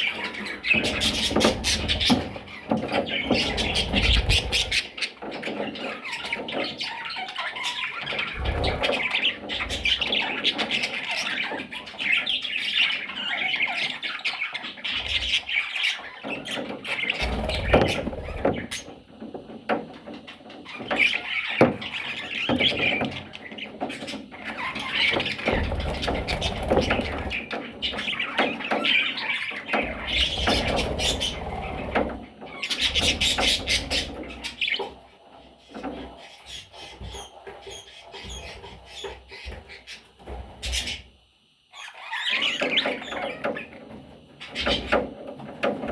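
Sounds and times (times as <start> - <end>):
budgerigars chattering and squawking: 0.0 - 19.0, 20.1 - 41.1, 41.7 - 45.9.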